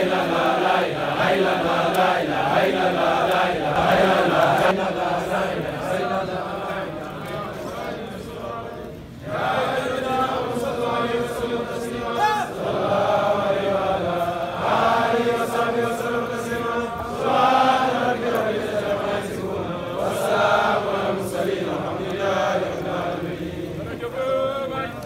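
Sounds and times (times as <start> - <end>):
men chanting in unison: 0.0 - 24.7.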